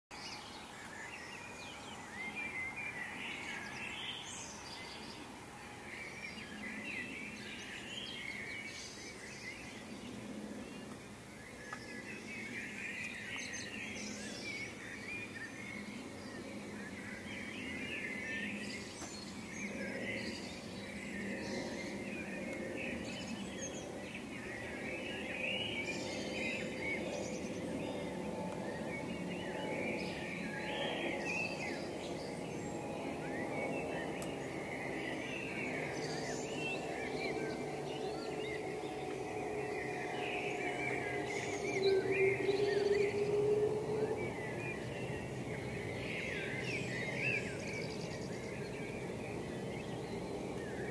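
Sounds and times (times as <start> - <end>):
songbirds singing: 0.1 - 50.9.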